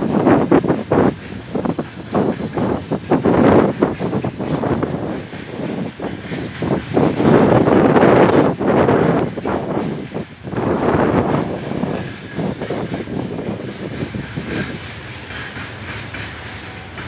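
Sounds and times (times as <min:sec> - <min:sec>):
train wheels clattering on rails: 0:00.0 - 0:17.0.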